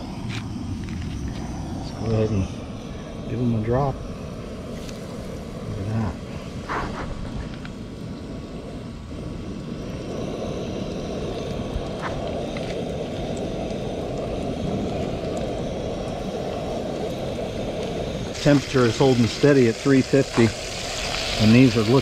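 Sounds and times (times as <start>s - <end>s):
camp stove burner roaring: 0.0s - 22.0s
oil bubbling: 0.0s - 22.0s.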